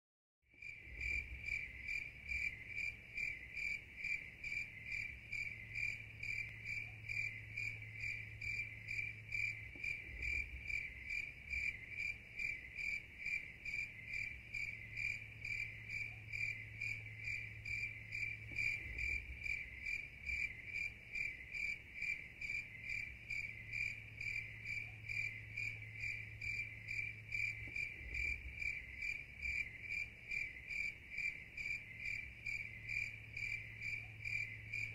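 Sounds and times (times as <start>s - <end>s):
cricket chirping: 0.6s - 34.9s.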